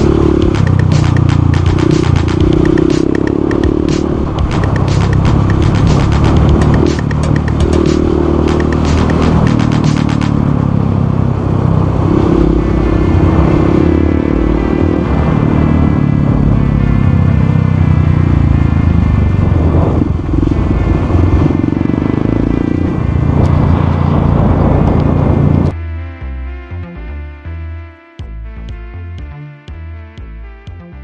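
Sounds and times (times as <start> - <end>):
motorcycle engine running: 0.0 - 25.7.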